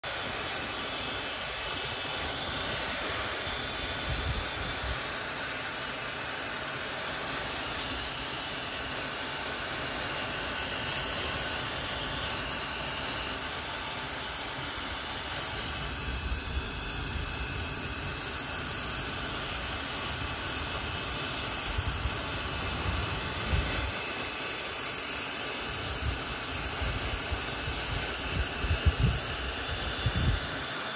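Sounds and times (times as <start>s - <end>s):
hair dryer blowing: 0.0s - 30.9s.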